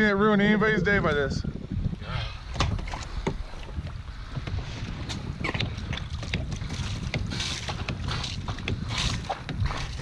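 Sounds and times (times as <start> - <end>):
wind buffeting microphone: 0.0 - 10.0
water slapping against hull: 1.7 - 10.0.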